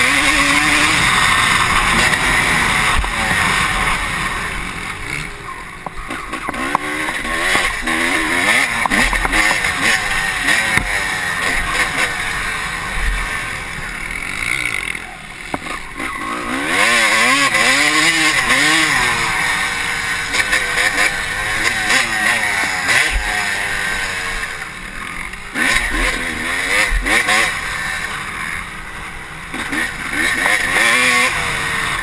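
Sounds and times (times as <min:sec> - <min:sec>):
two-stroke motorcycle engine revving: 0:00.0 - 0:32.0.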